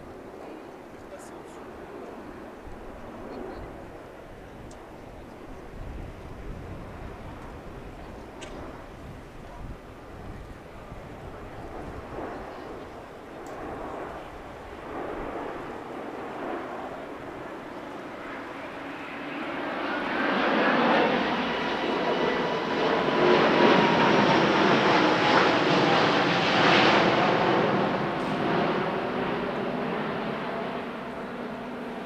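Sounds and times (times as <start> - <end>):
jet airliner flying overhead: 0.0 - 32.0.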